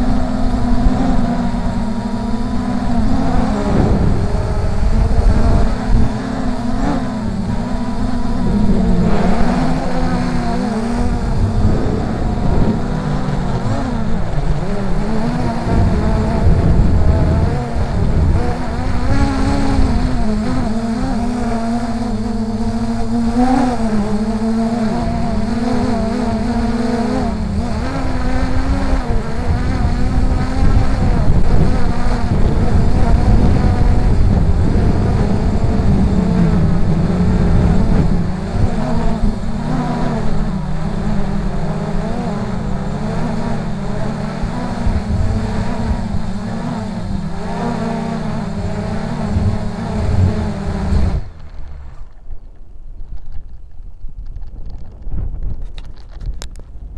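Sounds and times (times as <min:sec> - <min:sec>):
quadcopter motors buzzing: 0:00.0 - 0:52.4
wind buffeting the microphone: 0:00.0 - 0:56.9.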